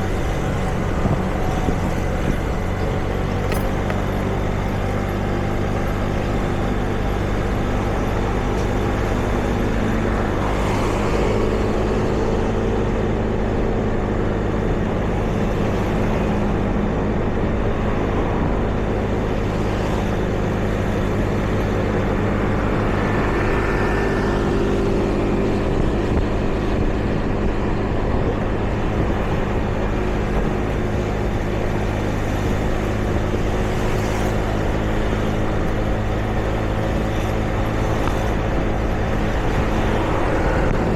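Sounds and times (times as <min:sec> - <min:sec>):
hum of engines: 0:00.0 - 0:40.9
vehicles passing by: 0:00.0 - 0:40.9.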